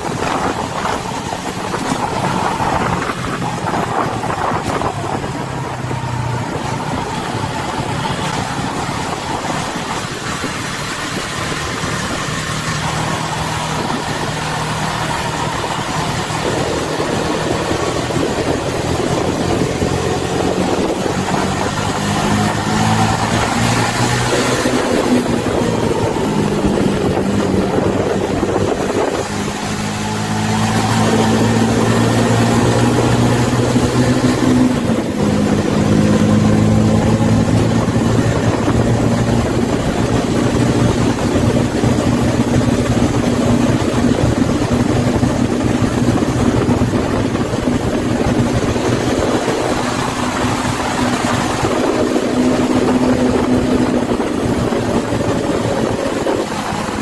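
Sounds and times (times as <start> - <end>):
bus engine humming: 0.0 - 57.0
road noise: 0.0 - 57.0.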